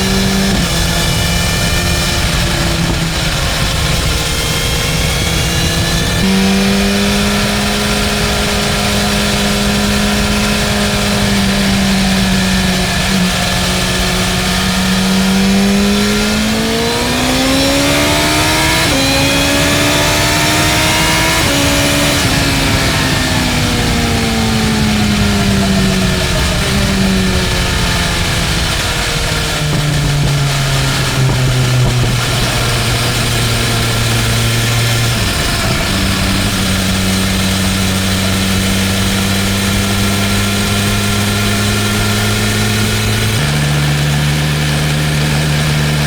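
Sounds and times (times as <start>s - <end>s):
motorcycle engine running at speed: 0.0s - 46.0s
rush of wind noise: 0.0s - 46.0s.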